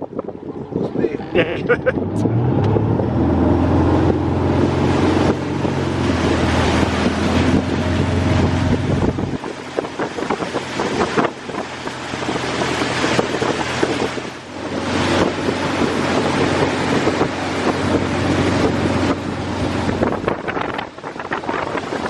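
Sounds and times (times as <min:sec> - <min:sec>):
wind buffeting a microphone: 0:00.0 - 0:22.0.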